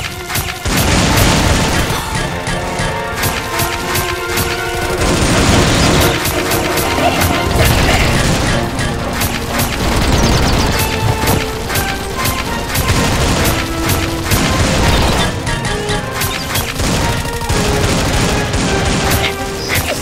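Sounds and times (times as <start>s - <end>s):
action background music: 0.0s - 20.0s.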